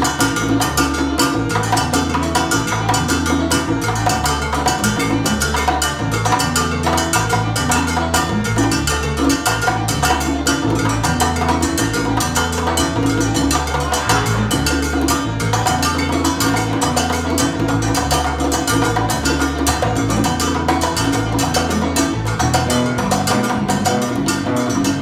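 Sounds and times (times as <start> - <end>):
bass line: 0.0 - 25.0
congas groove: 0.0 - 25.0
salsa band playing: 0.0 - 25.0.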